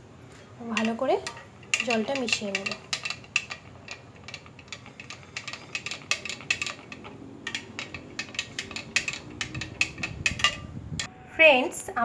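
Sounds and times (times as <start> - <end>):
spoon clinking against glass: 0.8 - 10.7.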